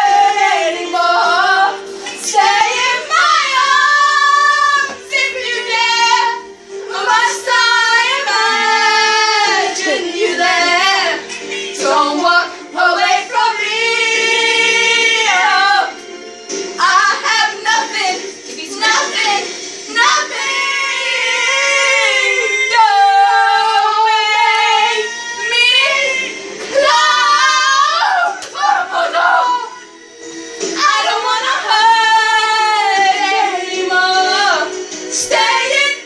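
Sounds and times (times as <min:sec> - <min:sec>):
young women singing: 0:00.0 - 0:16.0, 0:16.8 - 0:29.8, 0:30.7 - 0:36.0
music: 0:00.0 - 0:36.0.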